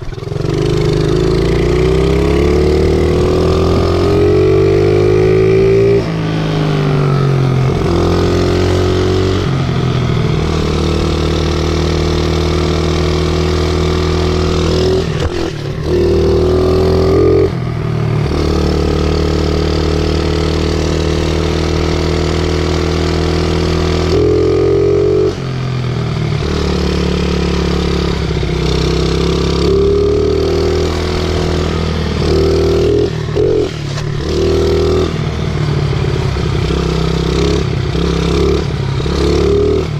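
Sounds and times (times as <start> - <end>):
small motorbike engine revving: 0.0 - 17.6, 18.2 - 39.9.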